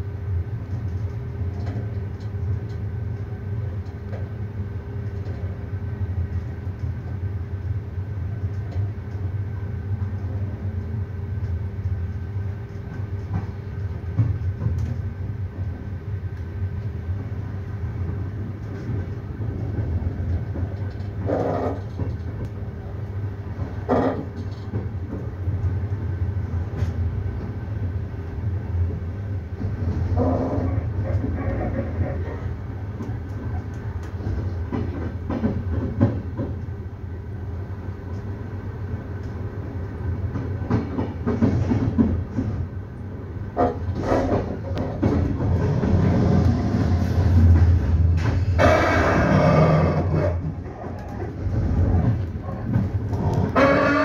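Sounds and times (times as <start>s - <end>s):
train rumbling over tracks: 0.0s - 54.0s.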